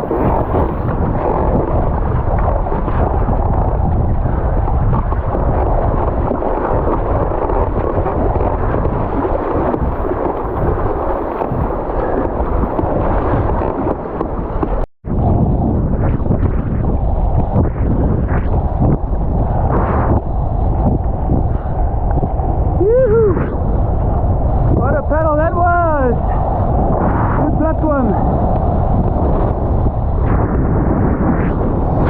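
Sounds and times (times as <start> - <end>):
water rushing: 0.0 - 15.6, 16.3 - 32.0
wind buffeting microphone: 0.0 - 32.0.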